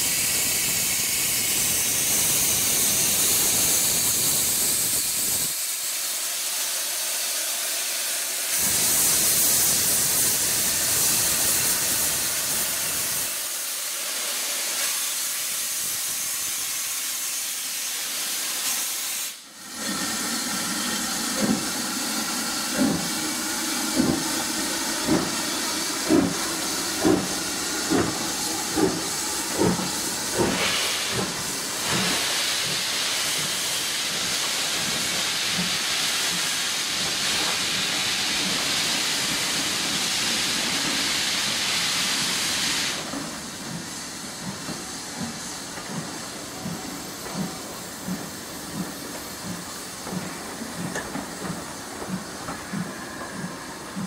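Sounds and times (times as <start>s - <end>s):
steam hissing: 0.0s - 54.0s
steam locomotive exhaust beats: 0.0s - 54.0s.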